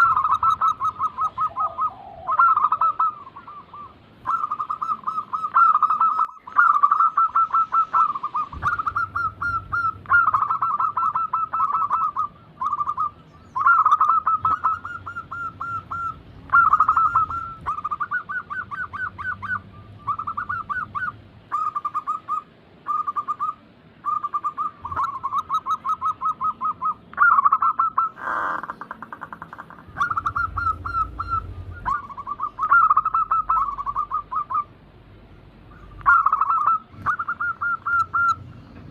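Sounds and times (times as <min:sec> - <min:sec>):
dove cooing: 0:00.0 - 0:34.8, 0:35.7 - 0:38.9.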